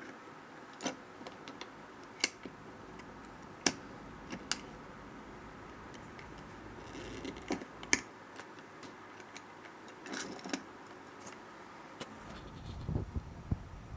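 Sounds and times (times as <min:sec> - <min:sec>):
faint steady hiss: 0:00.0 - 0:13.9.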